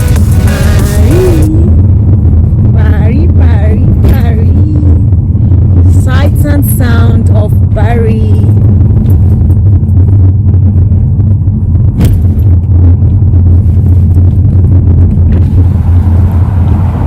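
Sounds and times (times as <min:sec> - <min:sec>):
car rumbling on the move: 0:00.0 - 0:17.0.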